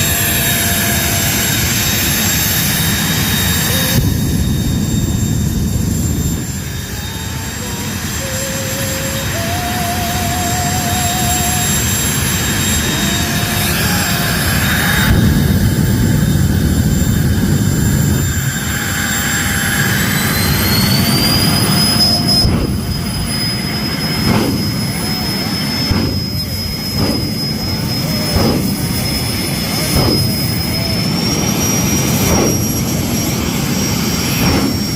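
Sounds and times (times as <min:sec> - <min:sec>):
jet turbine engine whining: 0:00.0 - 0:34.9.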